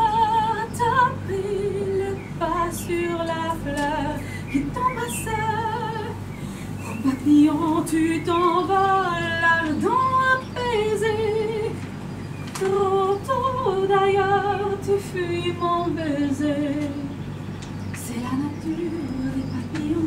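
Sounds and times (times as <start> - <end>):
woman singing: 0.0 - 11.9, 12.5 - 17.2, 18.0 - 20.0.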